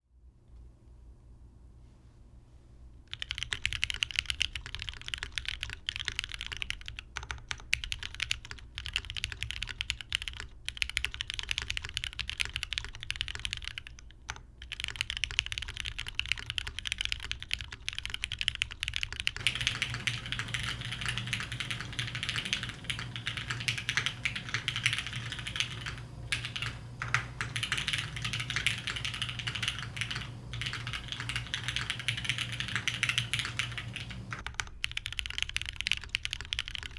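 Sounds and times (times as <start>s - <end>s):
mechanical keyboard typing: 3.1s - 36.9s.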